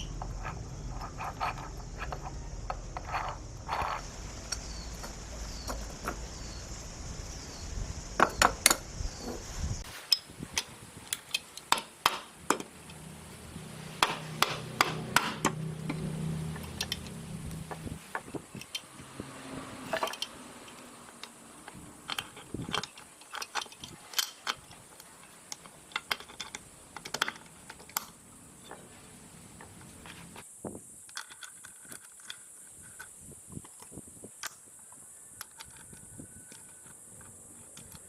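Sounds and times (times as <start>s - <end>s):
metal parts and tools clinking: 0.0s - 6.5s, 8.2s - 13.1s, 14.0s - 30.4s, 31.0s - 38.0s.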